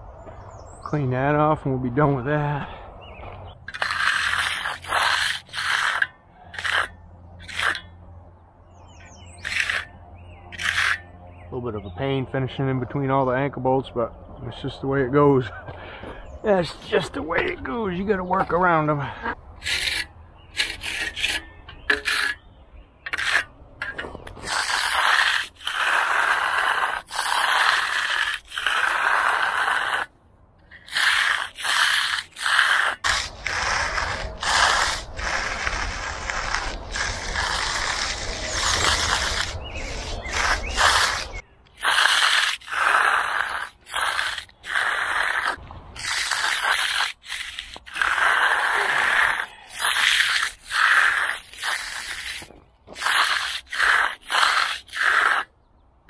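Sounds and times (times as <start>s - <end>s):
trowel scraping wet concrete: 2.6s - 8.1s, 8.7s - 12.0s, 15.4s - 55.6s.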